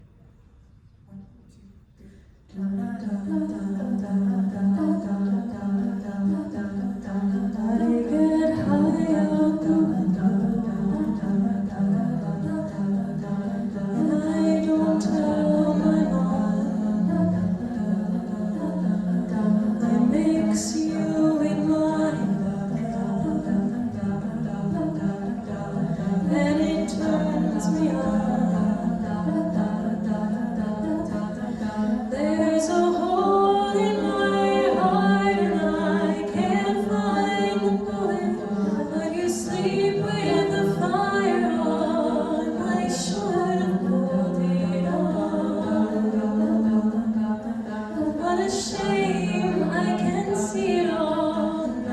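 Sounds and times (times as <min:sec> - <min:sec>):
harmony backing vocals: 0:01.1 - 0:51.9.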